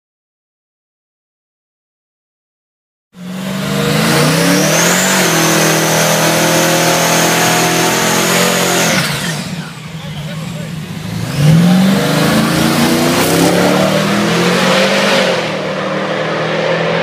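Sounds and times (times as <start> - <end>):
engine running at full throttle: 3.2 - 17.0.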